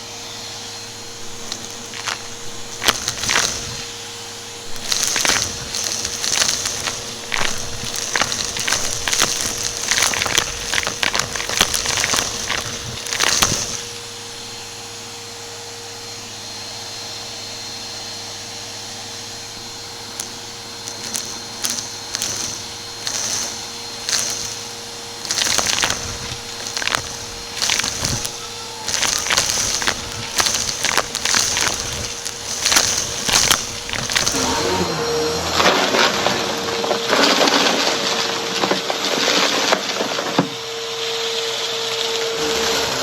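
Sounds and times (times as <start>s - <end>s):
debris crackling in vacuum: 0.0s - 43.0s
vacuum cleaner motor hum: 0.0s - 43.0s.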